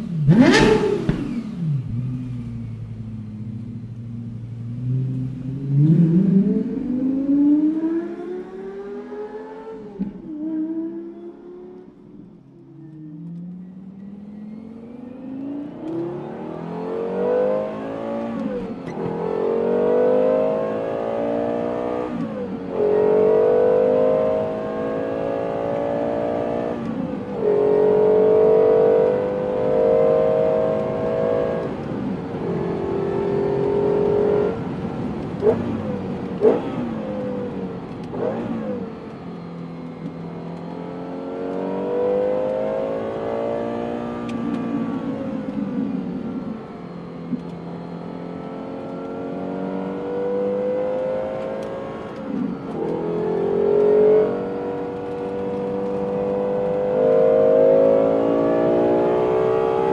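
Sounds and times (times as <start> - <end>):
car engine accelerating through gears: 0.0 - 59.9.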